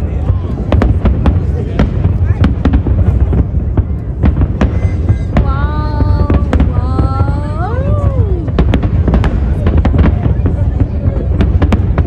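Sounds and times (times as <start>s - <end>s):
deep rumble: 0.0s - 12.0s
fireworks bangs: 0.0s - 12.0s.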